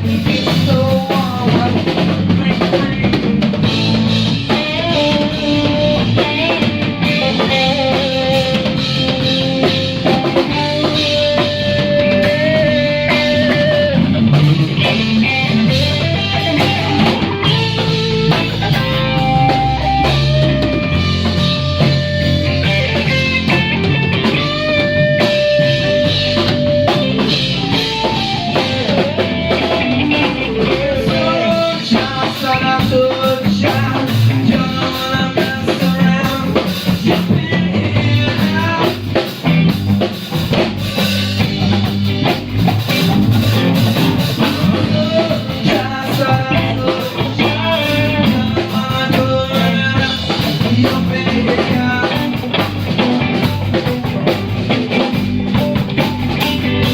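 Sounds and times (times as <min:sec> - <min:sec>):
rock band jamming: 0:00.0 - 0:56.9.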